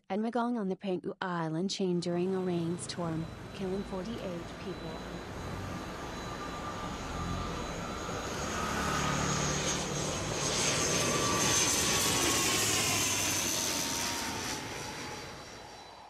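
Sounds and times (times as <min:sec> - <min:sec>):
aircraft flying past: 0:02.2 - 0:16.0.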